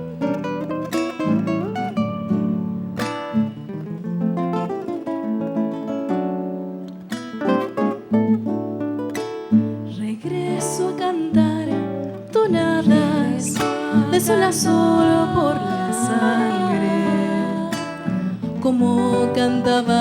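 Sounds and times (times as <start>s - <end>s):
acoustic guitar plucking: 0.0s - 20.0s.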